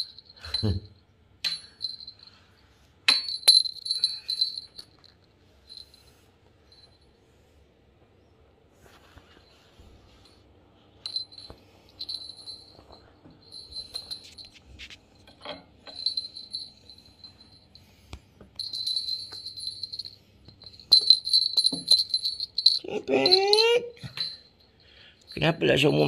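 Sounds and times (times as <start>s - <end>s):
jingle bell tinkling: 0.0s - 7.2s, 9.3s - 26.0s.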